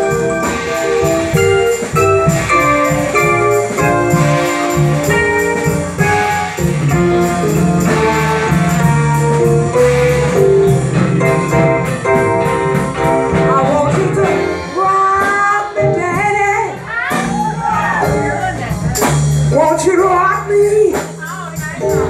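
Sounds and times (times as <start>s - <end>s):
guitar: 0.0s - 22.0s
live band playing: 0.0s - 22.0s.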